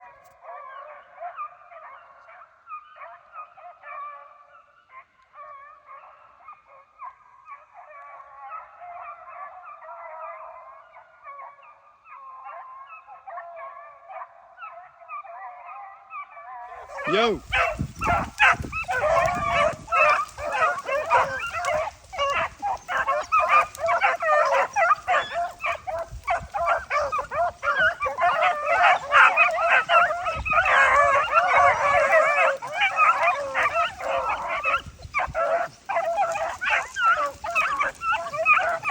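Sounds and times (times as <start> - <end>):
beagles baying in chorus: 5.3 - 38.9.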